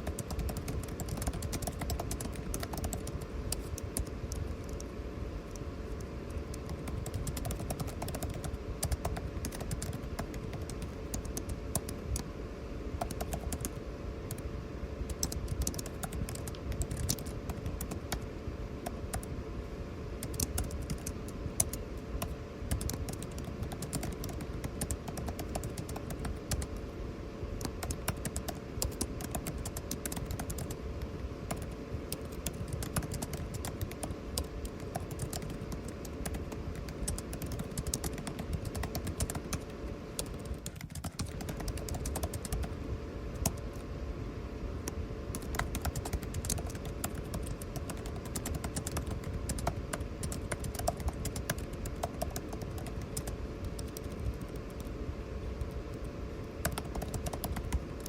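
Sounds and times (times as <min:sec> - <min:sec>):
keyboard typing: 0:00.0 - 0:12.3, 0:13.0 - 0:19.3, 0:20.2 - 0:26.9, 0:27.6 - 0:43.9, 0:44.8 - 0:55.0, 0:55.6 - 0:58.0
air conditioning hum: 0:00.0 - 0:58.0.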